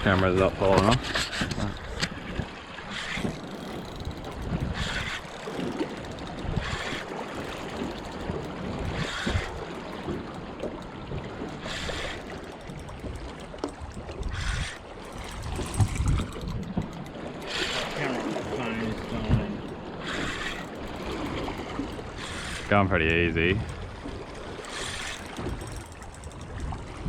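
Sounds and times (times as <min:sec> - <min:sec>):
water washing around boat: 0:00.0 - 0:27.0
wind: 0:00.0 - 0:27.0.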